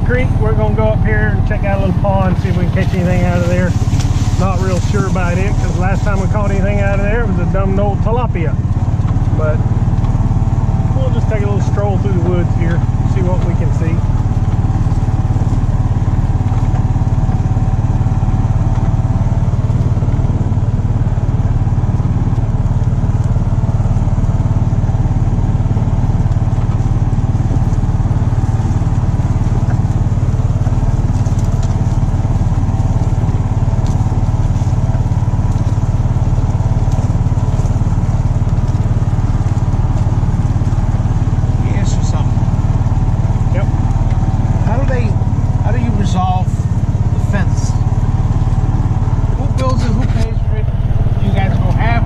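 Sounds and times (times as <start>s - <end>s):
small engine droning: 0.0s - 52.0s.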